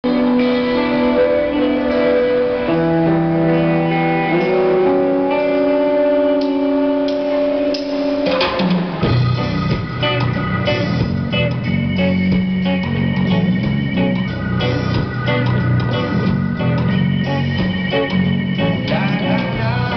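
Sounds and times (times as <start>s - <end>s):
bass guitar: 0.0s - 19.9s
drum kit: 0.0s - 19.9s
electric guitar: 0.0s - 19.9s
held synth chords: 0.0s - 19.9s.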